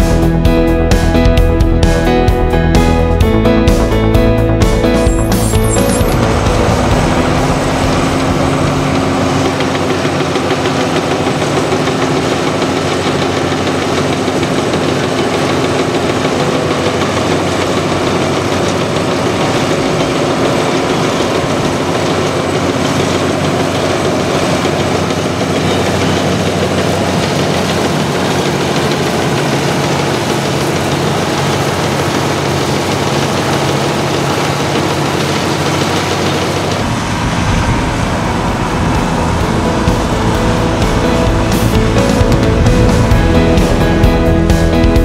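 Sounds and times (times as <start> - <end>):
combine harvester engine idling: 0.0 - 45.0.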